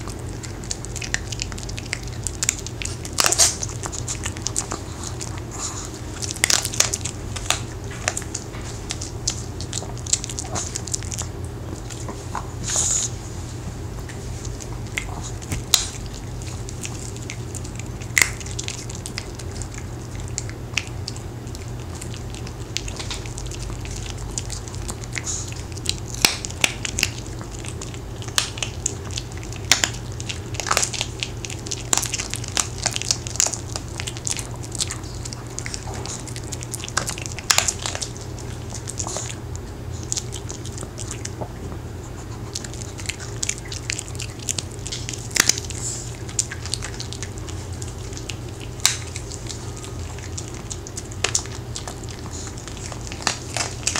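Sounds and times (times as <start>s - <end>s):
dog crunching hard cookies: 0.0s - 53.9s.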